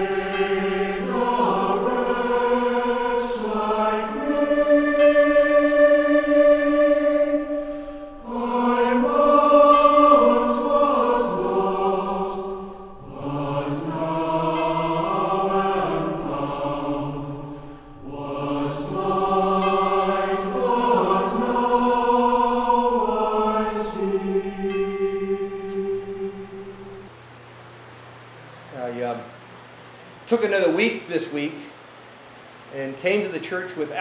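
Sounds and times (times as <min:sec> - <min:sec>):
choir singing slow chords: 0:00.0 - 0:32.9.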